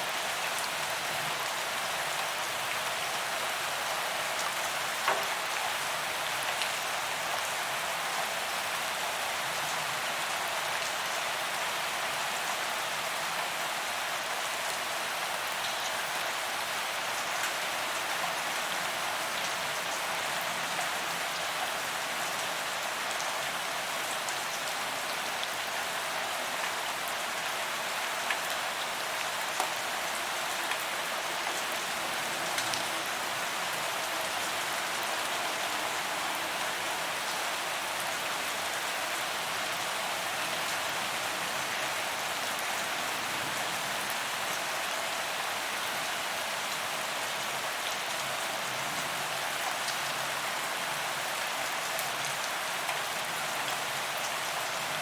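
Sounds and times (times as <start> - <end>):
rain on pavement: 0.0 - 55.0.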